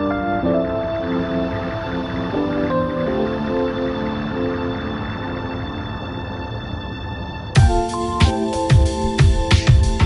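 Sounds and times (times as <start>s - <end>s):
music of held tones: 0.0s - 10.0s.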